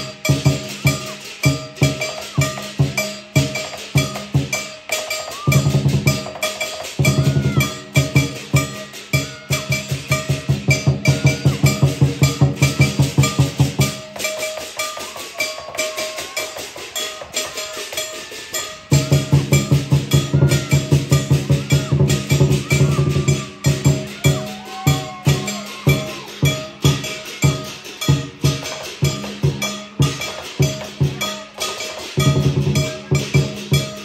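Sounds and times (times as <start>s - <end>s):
crashing cymbals: 0.0s - 34.0s
drum beating fast: 0.0s - 34.0s.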